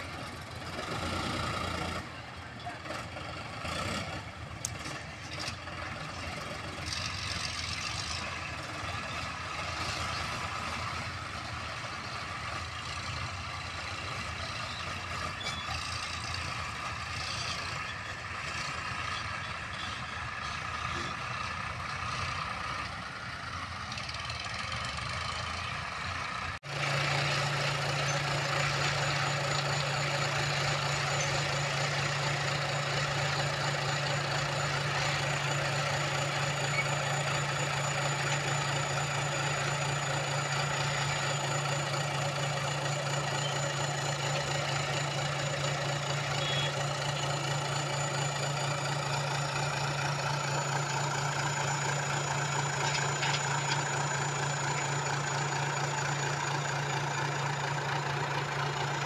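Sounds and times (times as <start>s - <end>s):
backhoe loader diesel engine idling: 0.0s - 59.0s
diesel tractor engines running: 0.0s - 59.0s.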